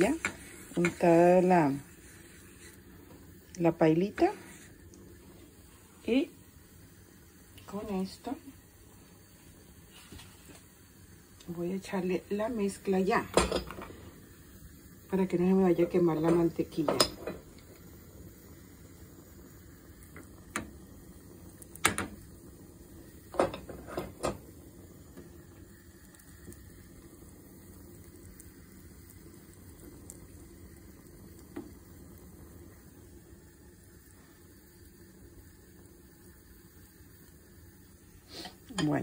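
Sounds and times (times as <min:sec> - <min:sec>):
butter sizzling in frying pan: 0:00.0 - 0:39.0.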